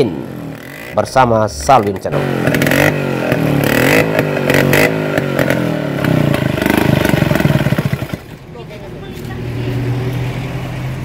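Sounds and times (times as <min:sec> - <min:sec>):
scooter engines revving: 0:00.0 - 0:11.0.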